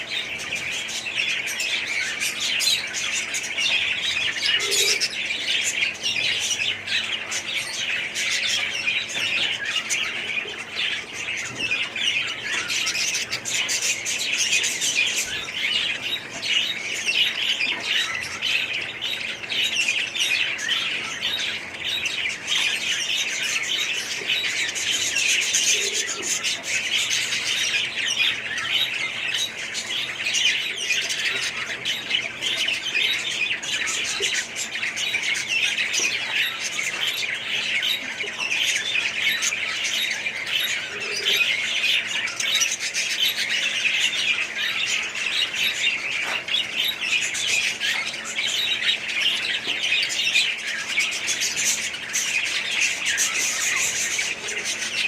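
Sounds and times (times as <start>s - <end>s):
parrots chattering and squawking: 0.0s - 55.0s.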